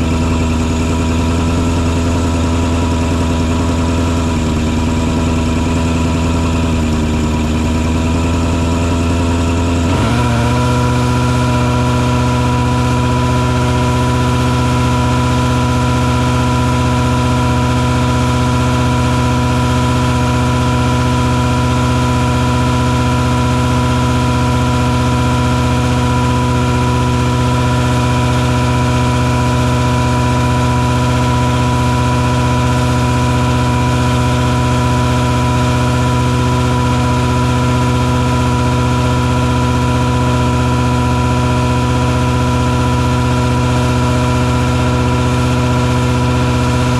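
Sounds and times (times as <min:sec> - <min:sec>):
truck engine droning: 0:00.0 - 0:46.9.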